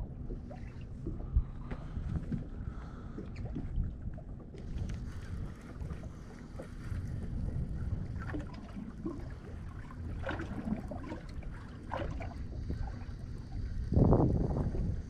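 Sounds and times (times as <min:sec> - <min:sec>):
waves lapping against a boat: 0:00.0 - 0:15.0
wind buffeting microphone: 0:00.0 - 0:15.0.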